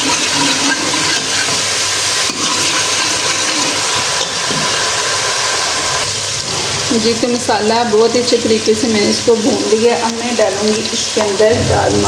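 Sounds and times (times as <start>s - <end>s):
food sizzling in hot oil: 0.0s - 11.6s.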